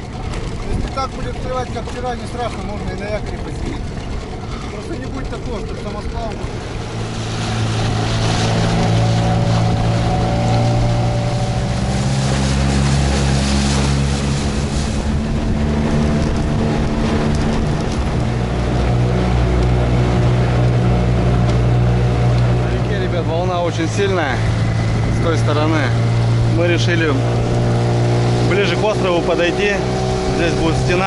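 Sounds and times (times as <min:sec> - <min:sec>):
motorboat engine running: 0:00.0 - 0:31.0
water rushing past: 0:00.0 - 0:31.0
wind: 0:00.0 - 0:31.0.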